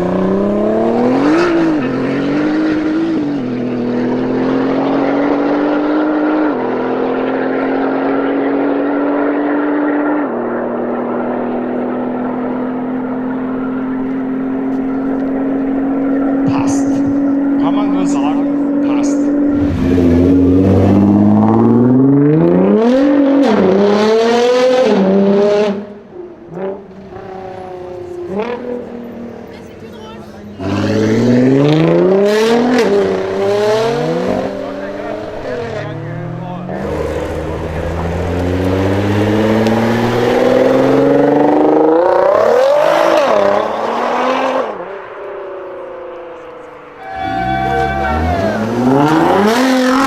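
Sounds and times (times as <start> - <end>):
car engine accelerating hard: 0.0 - 50.0.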